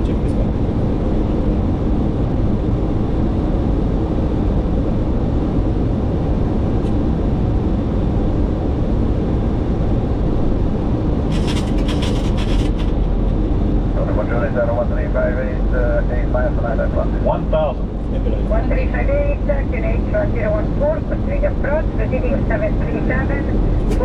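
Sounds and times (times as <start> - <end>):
aircraft engine noise: 0.0 - 24.0.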